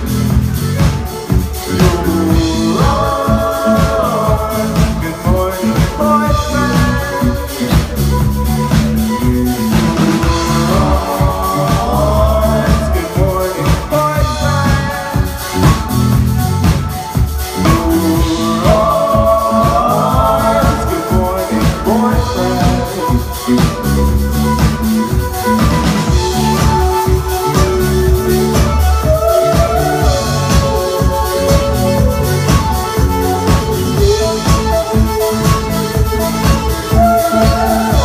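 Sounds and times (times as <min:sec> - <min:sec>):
live pop-rock band: 0:00.0 - 0:38.0
steady drum beat: 0:00.0 - 0:38.0
person singing: 0:01.2 - 0:16.1, 0:17.1 - 0:38.0.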